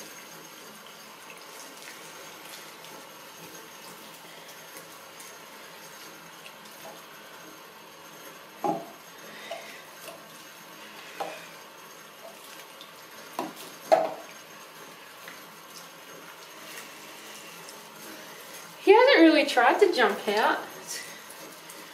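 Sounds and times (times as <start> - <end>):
water running from tap into basin: 0.0 - 21.9.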